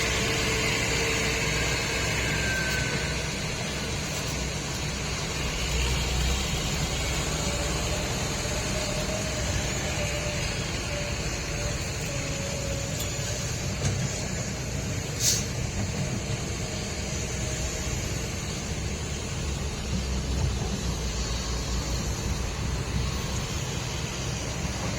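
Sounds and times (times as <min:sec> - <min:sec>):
heavy truck engine rumbling: 0:00.0 - 0:24.9.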